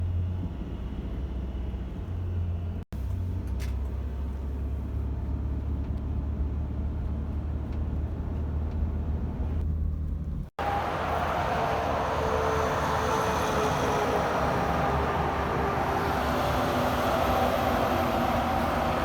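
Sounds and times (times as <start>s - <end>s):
highway traffic rumble: 0.2s - 19.0s.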